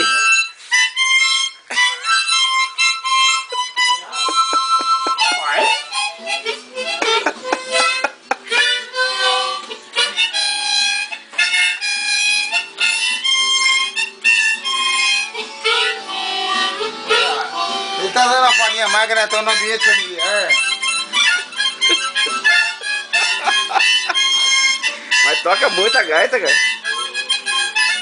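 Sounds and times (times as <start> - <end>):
harmonica playing lively tune: 0.0 - 28.0.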